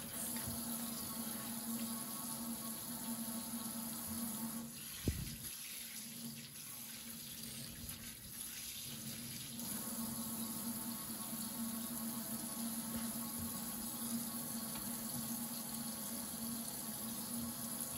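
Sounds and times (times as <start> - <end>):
faucet water running into sink: 0.0 - 17.9.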